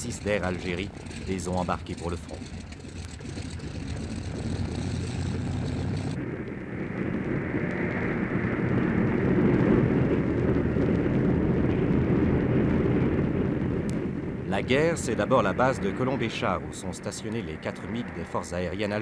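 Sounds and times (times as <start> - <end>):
low hum: 0.0 - 19.0
propeller aircraft droning: 0.0 - 19.0.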